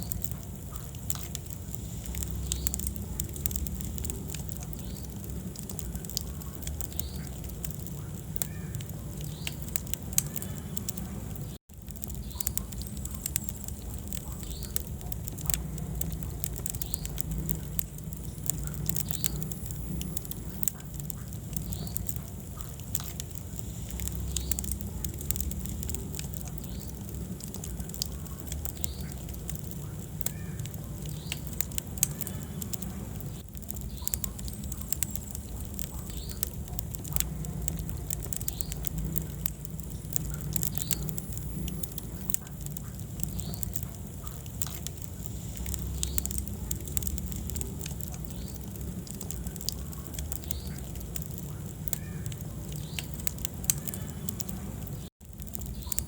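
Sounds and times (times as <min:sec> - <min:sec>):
low rumble of flames: 0:00.0 - 0:56.0
wood fire crackling and popping: 0:00.0 - 0:56.0.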